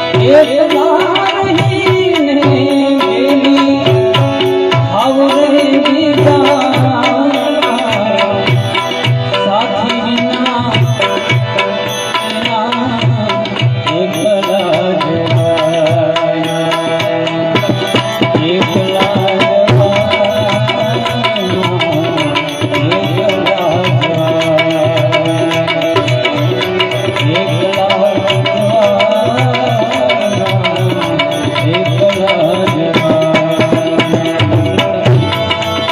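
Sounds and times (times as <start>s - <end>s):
hand drums: 0.0s - 35.9s.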